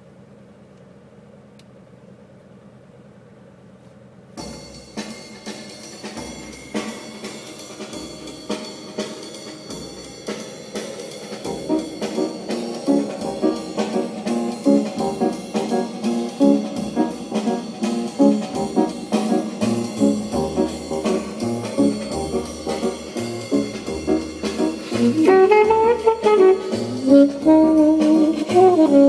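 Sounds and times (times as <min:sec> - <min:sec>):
music with drum beat over car speakers: 0:04.4 - 0:29.0.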